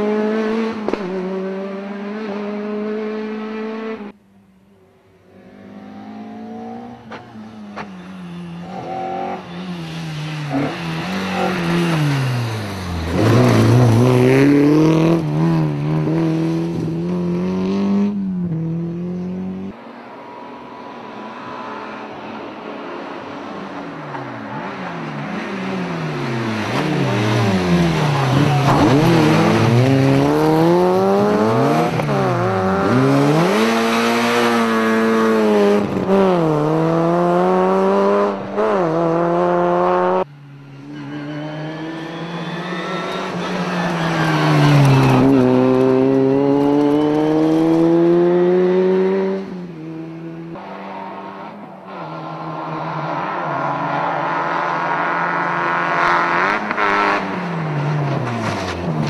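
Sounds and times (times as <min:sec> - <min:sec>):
rally car engines revving past: 0:00.0 - 0:04.2, 0:05.2 - 0:59.0.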